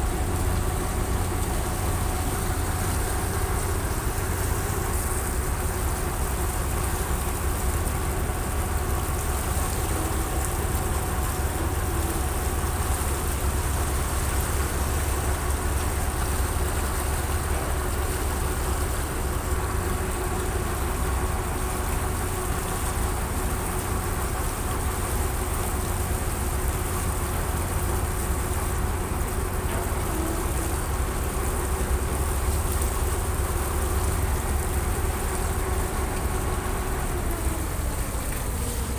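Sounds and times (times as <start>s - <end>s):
boat engine rumbling: 0.0s - 38.9s.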